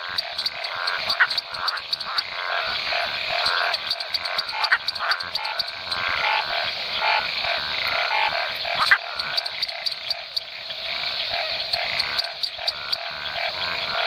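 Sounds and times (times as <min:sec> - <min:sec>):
tree frog croaking: 0:00.0 - 0:14.0.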